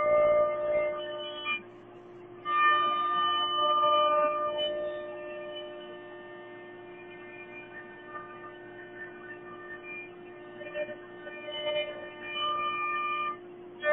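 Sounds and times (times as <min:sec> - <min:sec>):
cnc router high whine: 0:00.0 - 0:13.9.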